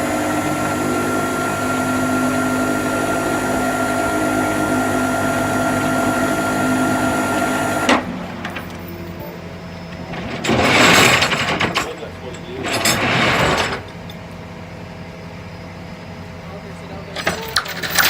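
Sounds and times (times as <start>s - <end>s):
tow truck machinery hum: 0.0s - 18.0s.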